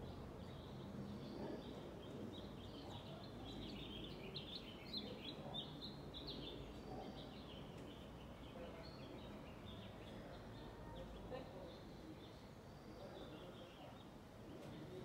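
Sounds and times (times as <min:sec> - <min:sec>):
faint birds twittering: 0:00.0 - 0:15.0.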